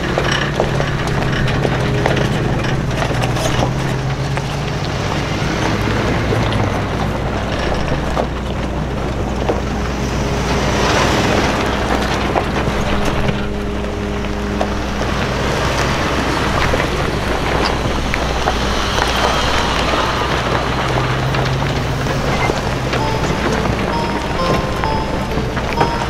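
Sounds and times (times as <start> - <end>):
suv engines running at low speed: 0.0 - 24.0.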